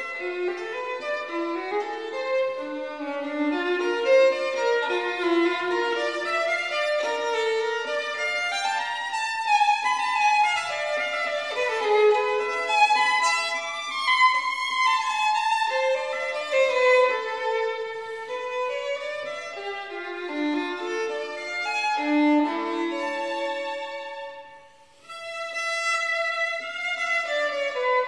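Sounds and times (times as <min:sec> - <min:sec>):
violin melody: 0:00.0 - 0:28.0.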